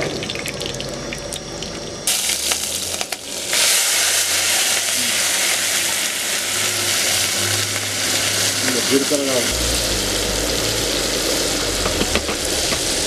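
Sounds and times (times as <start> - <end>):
hot oil crackling in a wok: 2.1 - 13.0.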